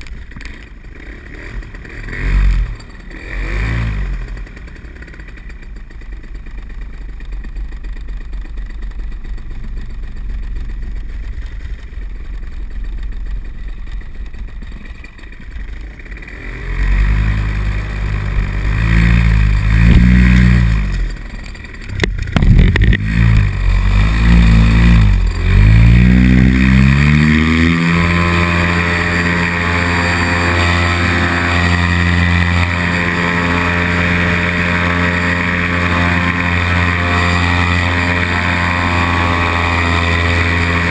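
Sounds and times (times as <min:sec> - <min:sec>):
paramotor engine revving: 0:00.4 - 0:40.9.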